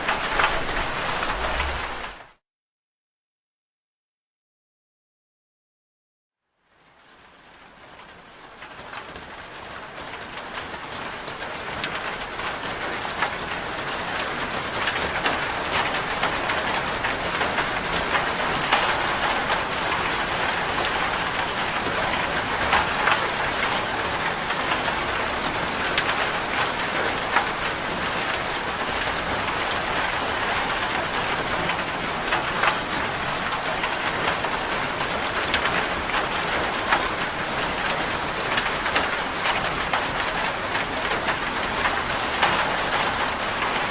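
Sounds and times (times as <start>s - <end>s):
steady rain falling: 0.0s - 2.4s, 6.4s - 43.9s.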